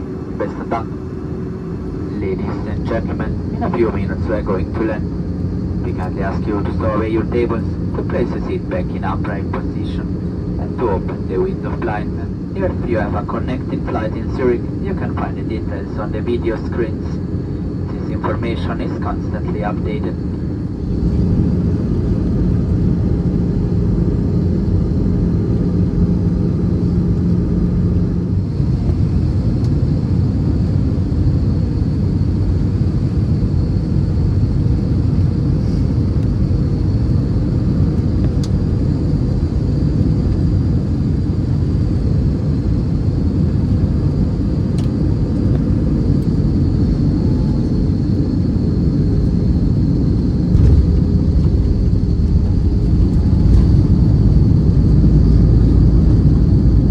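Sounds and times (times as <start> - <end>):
aircraft cabin engine rumble: 0.0 - 56.9
steady hum: 0.0 - 56.9.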